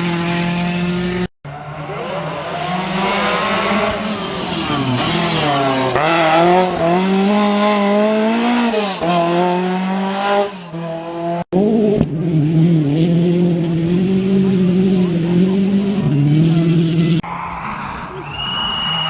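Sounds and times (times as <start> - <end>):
rally car engine revving: 0.0 - 17.2.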